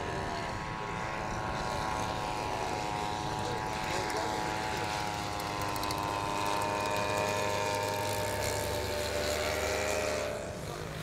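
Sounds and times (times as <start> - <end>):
model airplane engine and propeller: 0.0 - 11.0.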